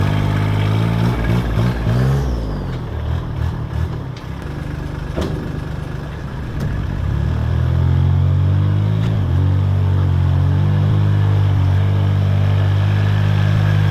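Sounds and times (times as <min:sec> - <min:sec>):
diesel pickup engine revving: 0:00.0 - 0:13.9.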